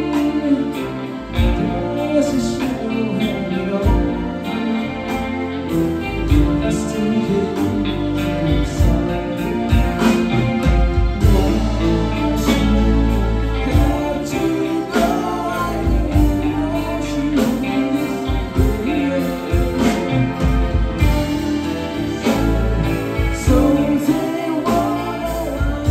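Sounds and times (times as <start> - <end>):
drum kit: 0.0 - 25.9
electric bass: 0.0 - 25.9
electric guitar: 0.0 - 25.9
keyboard: 0.0 - 25.9
man singing: 0.0 - 25.9.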